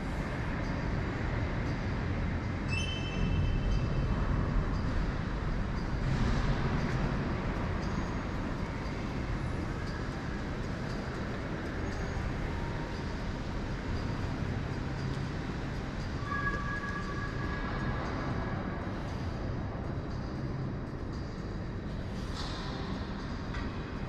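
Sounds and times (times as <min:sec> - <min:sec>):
low rumbling background noise: 0:00.0 - 0:24.0.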